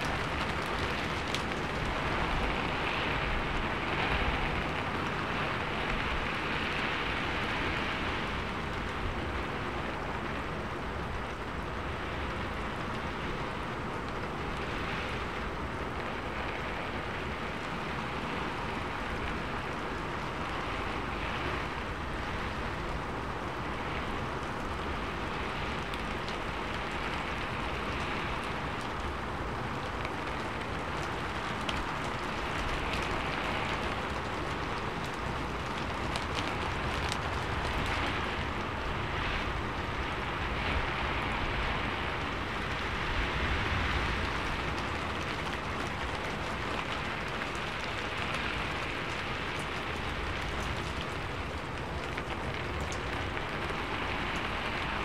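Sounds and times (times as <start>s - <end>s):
rain on a metal roof: 0.0s - 55.0s.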